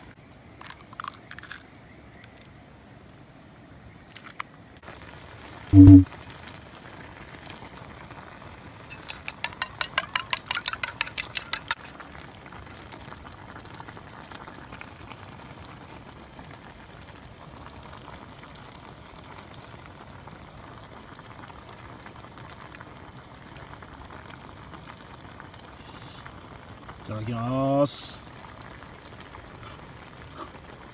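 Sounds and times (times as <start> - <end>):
food simmering and sizzling in pan: 4.8 - 30.9.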